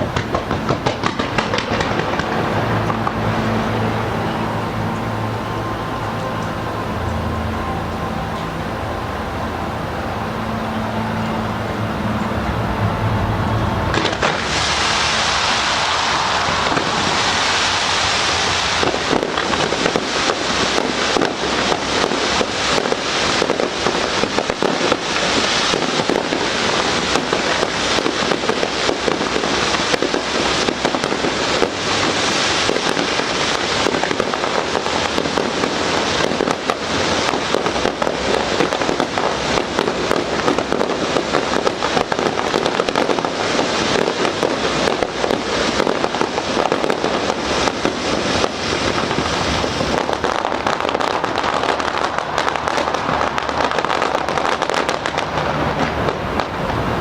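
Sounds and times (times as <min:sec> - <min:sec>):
fireworks crackling and banging: 0:00.0 - 0:57.0
hissing rush: 0:00.0 - 0:57.0.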